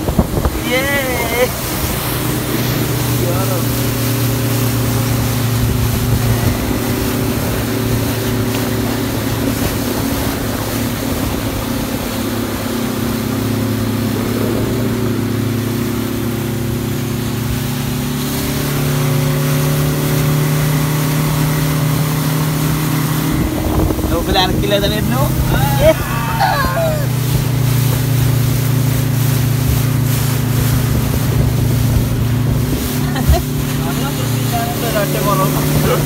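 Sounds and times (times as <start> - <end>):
outboard motor running: 0.0 - 36.0
water rushing: 0.0 - 36.0
wind: 0.0 - 36.0.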